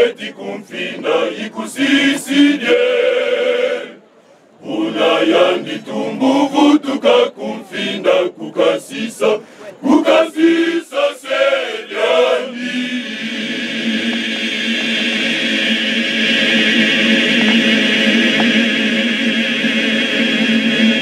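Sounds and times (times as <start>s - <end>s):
men's choir singing: 0.0s - 4.0s, 4.6s - 21.0s.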